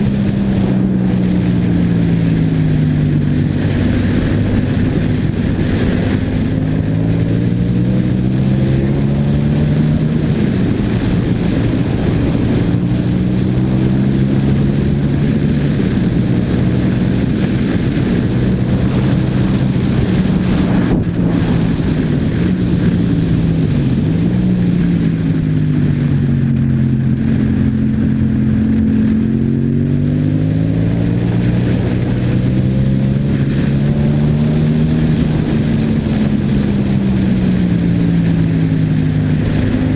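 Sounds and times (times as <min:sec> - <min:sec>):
motorcycle engine revving through gears: 0:00.0 - 0:39.9
wind on microphone: 0:00.0 - 0:39.9.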